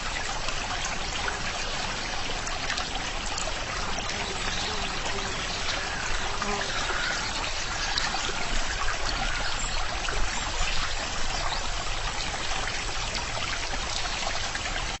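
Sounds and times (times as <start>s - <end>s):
stream water trickling: 0.0s - 15.0s.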